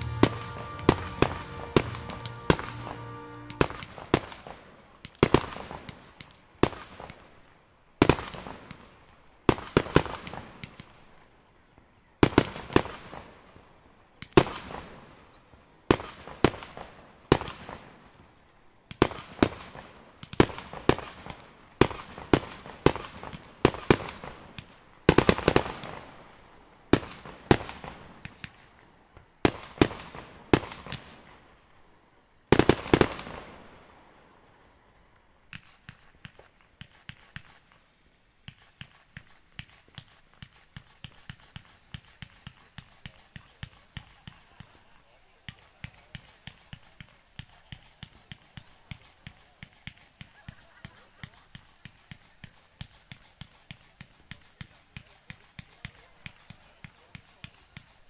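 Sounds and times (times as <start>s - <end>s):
fireworks bangs with echo: 0.0s - 7.4s, 8.0s - 11.0s, 12.2s - 13.6s, 15.9s - 18.2s, 18.9s - 31.4s, 32.5s - 34.0s, 38.4s - 44.9s, 45.5s - 58.0s.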